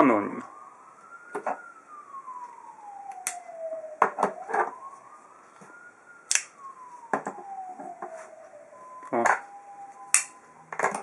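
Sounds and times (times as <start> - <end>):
distant siren wailing: 0.0 - 11.0.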